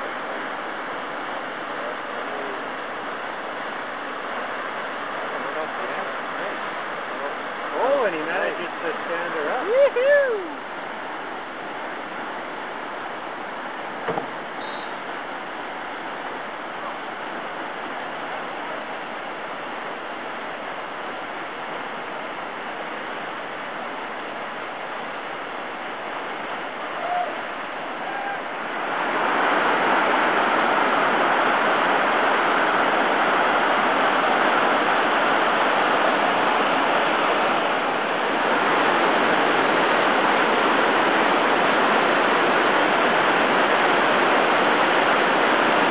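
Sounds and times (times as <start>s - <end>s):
waterfall and rushing whitewater: 0.0s - 45.9s.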